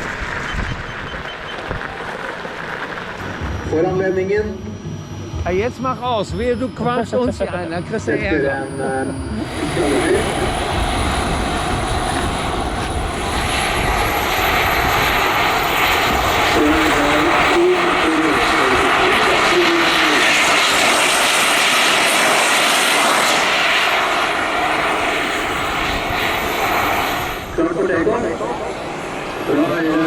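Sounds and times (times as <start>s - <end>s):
model jet engine whining: 0.0s - 30.0s.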